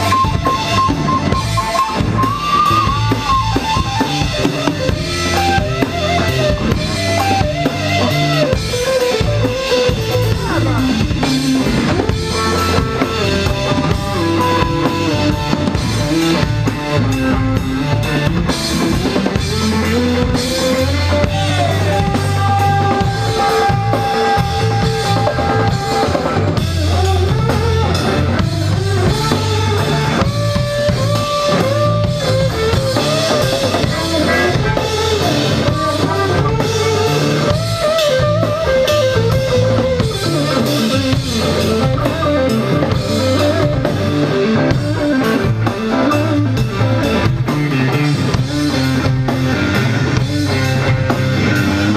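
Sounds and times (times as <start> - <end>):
bending lead guitar notes: 0.0 - 51.9
live rock band playing: 0.0 - 51.9.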